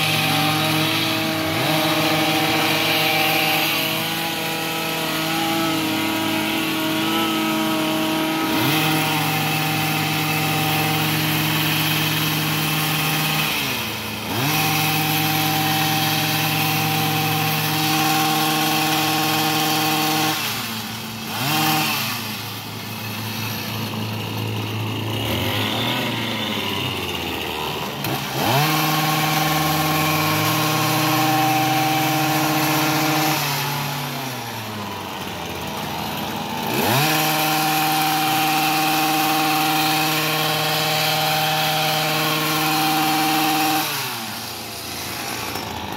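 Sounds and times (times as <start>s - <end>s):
hedge trimmer engine revving: 0.0s - 45.9s.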